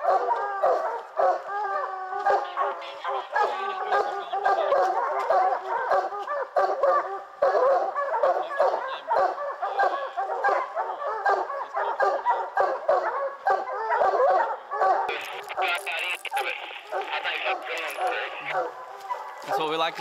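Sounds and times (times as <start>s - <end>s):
hounds baying and barking: 0.0s - 20.0s.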